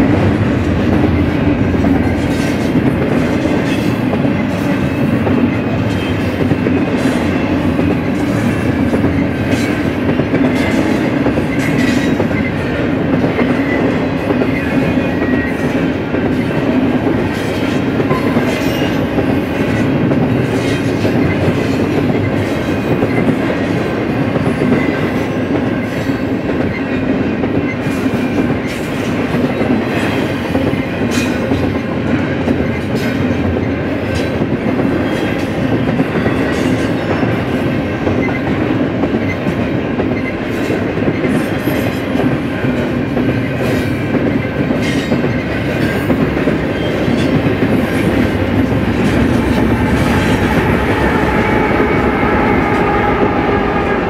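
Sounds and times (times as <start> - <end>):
freight train rumbling: 0.0 - 54.0
train wheels clicking on rails: 0.0 - 54.0.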